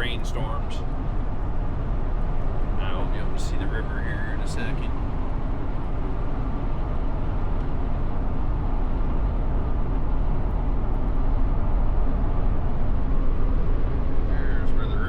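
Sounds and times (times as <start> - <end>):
engine and road noise in cabin: 0.0 - 15.0.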